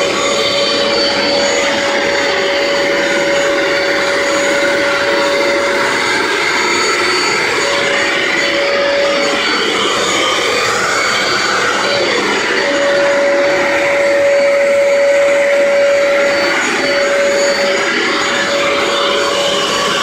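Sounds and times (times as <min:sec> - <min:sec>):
carpet cleaner running: 0:00.0 - 0:20.0.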